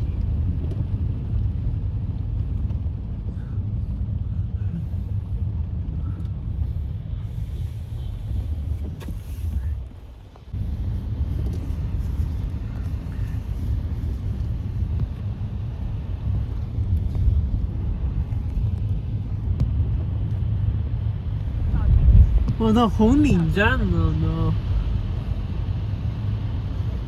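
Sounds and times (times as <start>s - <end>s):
road and tyre noise: 0.0s - 27.0s.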